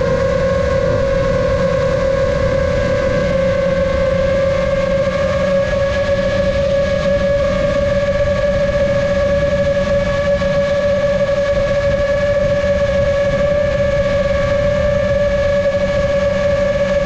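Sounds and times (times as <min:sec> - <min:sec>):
drone motors and propellers whining: 0:00.0 - 0:17.0
wind buffeting microphone: 0:00.0 - 0:17.0.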